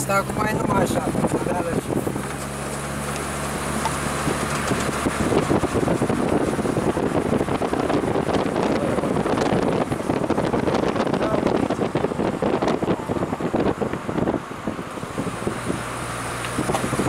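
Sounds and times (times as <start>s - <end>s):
car engine hum: 0.0s - 17.0s
wind buffeting microphone: 0.0s - 17.0s.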